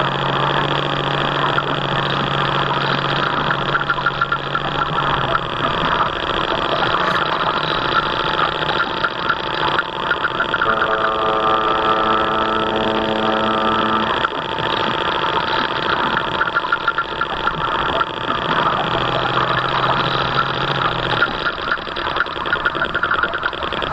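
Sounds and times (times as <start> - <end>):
low hum: 0.0 - 23.9
model boat motor running: 0.0 - 23.9
steady pitched tone: 0.0 - 23.9.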